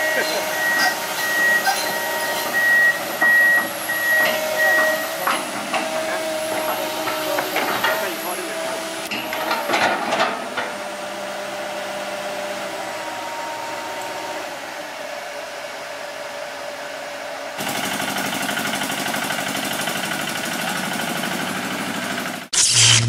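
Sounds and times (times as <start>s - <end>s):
single-cylinder truck engine: 0.0s - 22.5s
excavator engine running: 0.0s - 23.0s.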